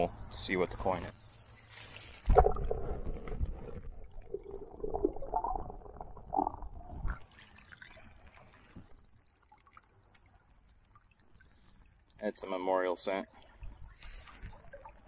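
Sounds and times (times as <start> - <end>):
underwater gurgling and sloshing: 0.8 - 15.0.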